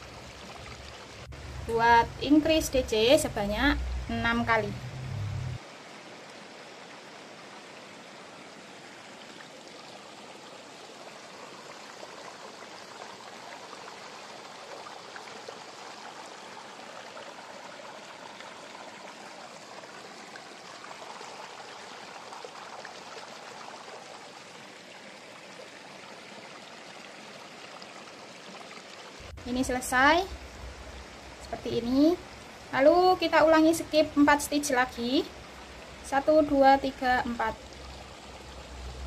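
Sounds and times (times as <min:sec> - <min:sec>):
steady background hiss: 0:00.0 - 0:39.0.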